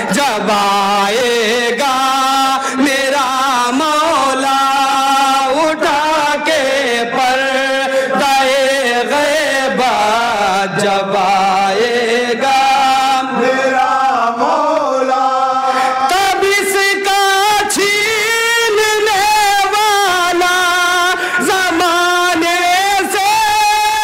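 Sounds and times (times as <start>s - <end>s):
men chanting into a microphone: 0.0s - 24.0s.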